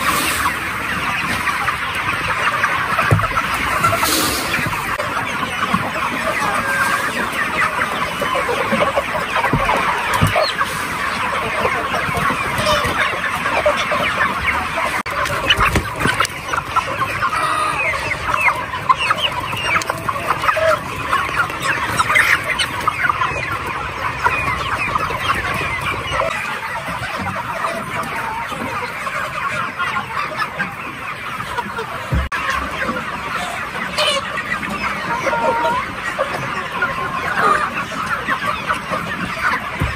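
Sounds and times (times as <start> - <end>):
flock of chickens calling: 0.0 - 39.9.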